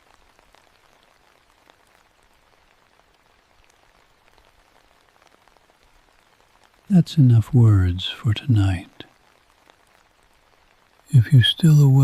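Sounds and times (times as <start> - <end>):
faint rain falling: 0.0 - 12.0.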